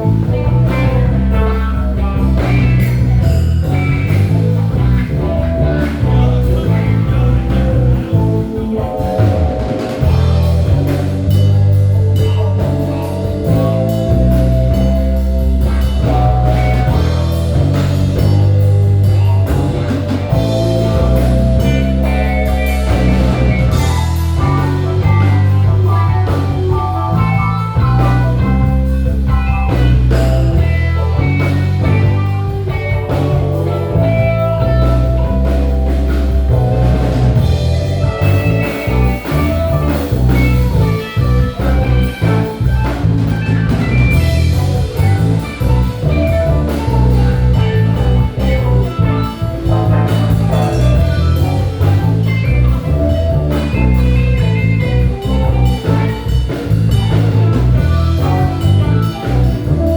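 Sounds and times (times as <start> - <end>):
blues band playing: 0.0 - 59.9
heavy bass line: 0.0 - 59.9.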